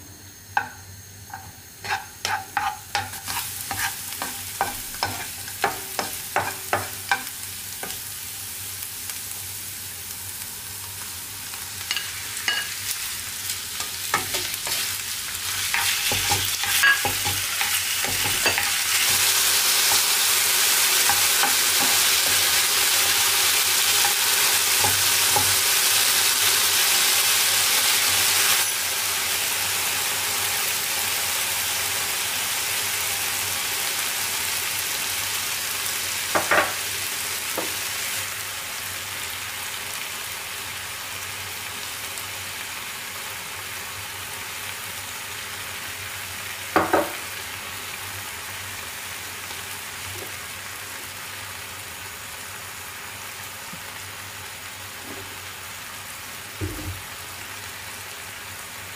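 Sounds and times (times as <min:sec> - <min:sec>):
chicken sizzling in a frying pan: 0:00.4 - 0:58.9.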